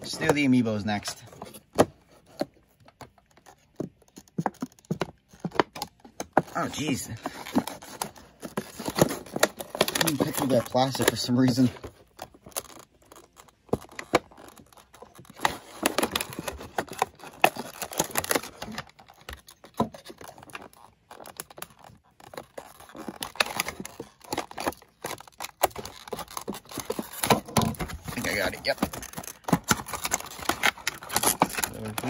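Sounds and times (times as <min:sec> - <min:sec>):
fingers tearing plastic packaging: 0:00.0 - 0:32.0.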